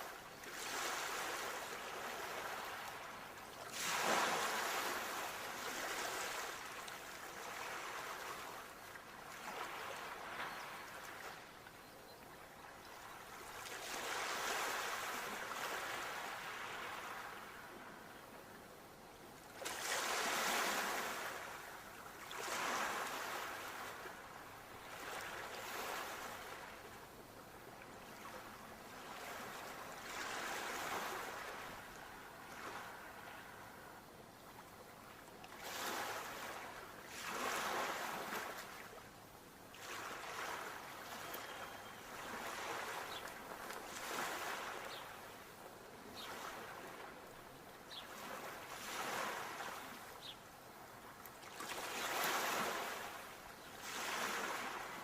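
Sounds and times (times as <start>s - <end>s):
sea waves breaking on shore: 0.0s - 11.5s, 13.0s - 18.0s, 19.5s - 34.0s, 35.2s - 39.1s, 39.7s - 55.0s.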